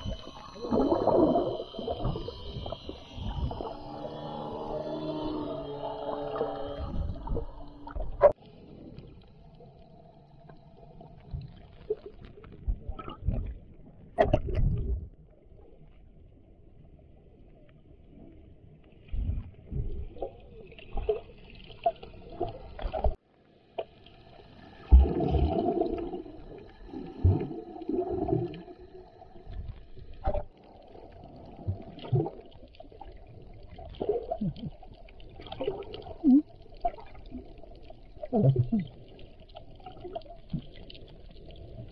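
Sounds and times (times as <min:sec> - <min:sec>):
underwater gurgling and bubbling: 0:00.0 - 0:15.8, 0:18.0 - 0:23.2, 0:24.0 - 0:41.9.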